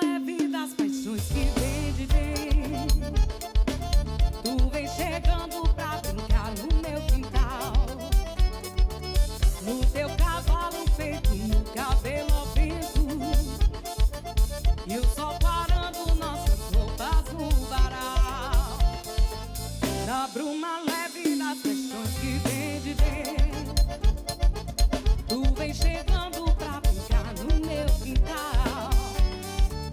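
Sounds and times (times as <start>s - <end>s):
live band music: 0.0s - 29.9s.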